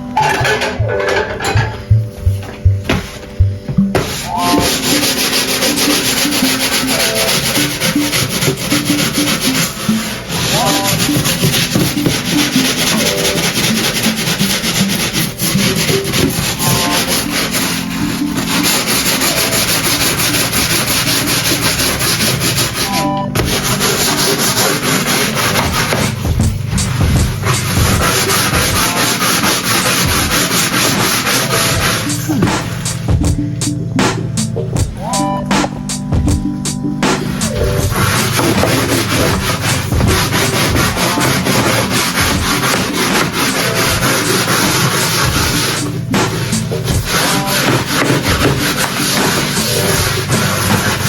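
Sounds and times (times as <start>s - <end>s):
faint background music: 0.0s - 51.0s
surface being scrubbed hard: 0.2s - 33.2s, 37.2s - 51.0s.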